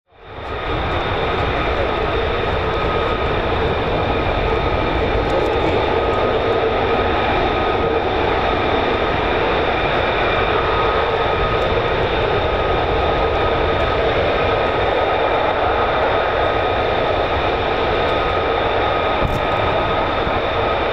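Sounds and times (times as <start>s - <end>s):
jet engine idling: 0.1s - 20.9s.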